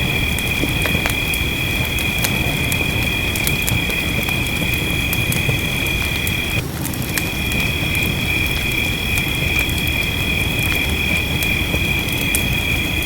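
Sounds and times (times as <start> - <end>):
crickets chirping: 0.0 - 13.0
fireplace crackling and popping: 0.0 - 13.0
low rumble: 0.0 - 13.0.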